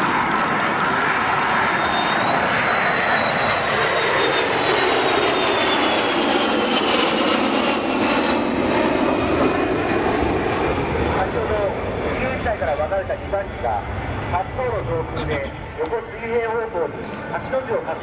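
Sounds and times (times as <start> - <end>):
jet aircraft roar: 0.0 - 18.0.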